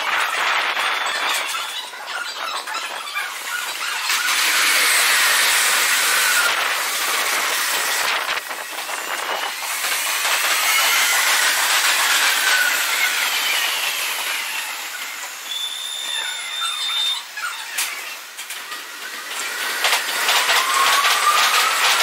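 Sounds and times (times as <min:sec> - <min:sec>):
hissing rail noise: 0:00.0 - 0:22.0
train motor whines: 0:00.0 - 0:22.0.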